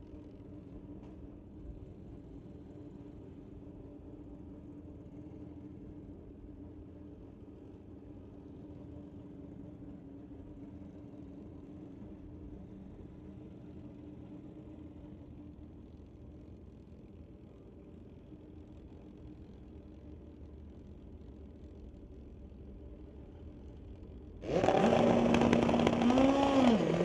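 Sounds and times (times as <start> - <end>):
constant hum: 0.0 - 27.0.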